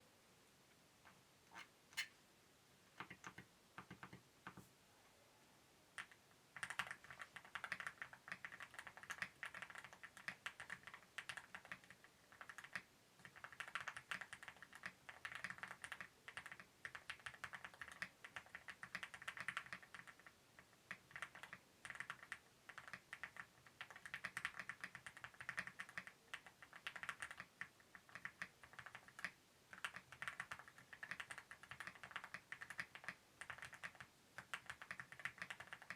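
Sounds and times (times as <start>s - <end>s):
mechanical keyboard typing: 6.0s - 20.3s, 20.9s - 35.9s.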